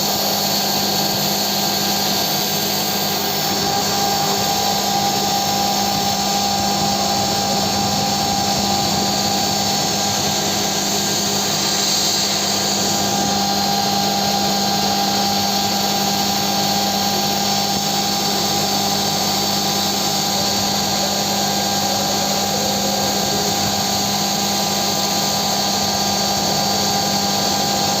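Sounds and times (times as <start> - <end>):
machine noise hiss: 0.0 - 28.0
milling machine spindle whine: 0.0 - 28.0.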